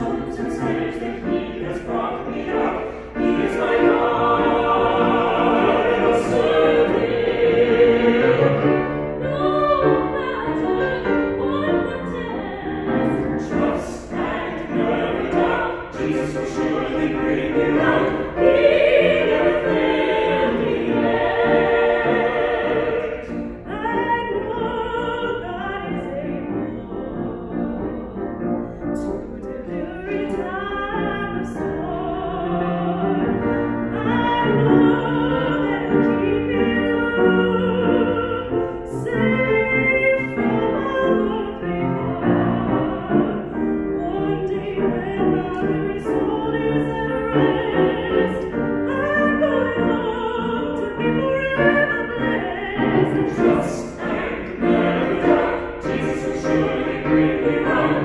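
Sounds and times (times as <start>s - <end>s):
piano accompaniment: 0.0s - 58.0s
vocal quartet singing in harmony: 0.0s - 58.0s.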